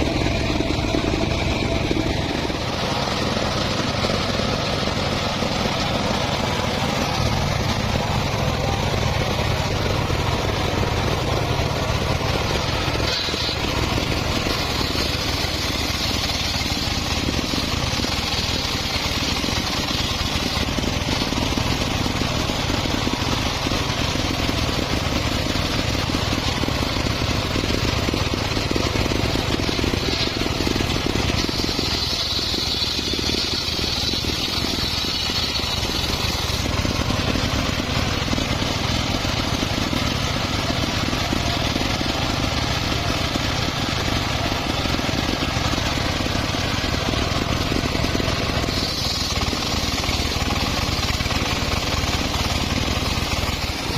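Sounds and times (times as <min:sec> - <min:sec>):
engine drone: 0:00.0 - 0:53.9
saw blade cutting wood: 0:00.0 - 0:53.9.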